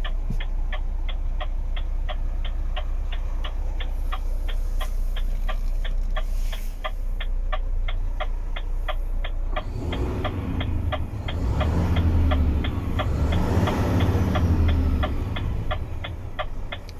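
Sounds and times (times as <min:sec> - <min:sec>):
truck diesel engine revving: 0:00.0 - 0:16.9.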